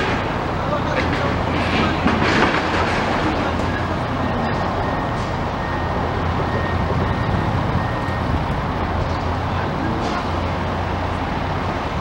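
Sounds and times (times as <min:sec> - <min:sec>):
heavy machinery engine: 0:00.0 - 0:12.0.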